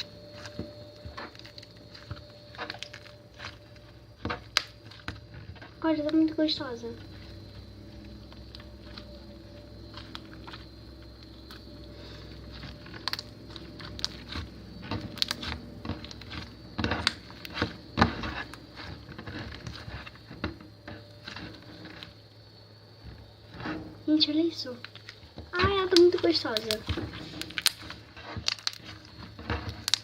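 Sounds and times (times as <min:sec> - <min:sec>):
slime being kneaded by hand: 0:00.0 - 0:22.2, 0:23.0 - 0:30.0
sticky clicks and crackles: 0:00.0 - 0:22.2, 0:24.6 - 0:30.0
steady low hum: 0:00.0 - 0:29.9.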